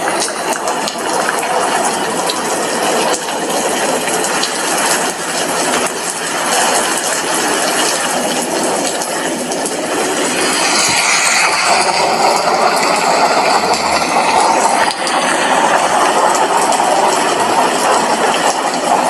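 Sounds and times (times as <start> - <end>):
rain on a glass window: 0.0 - 19.0
raindrops tapping on glass: 0.0 - 19.0.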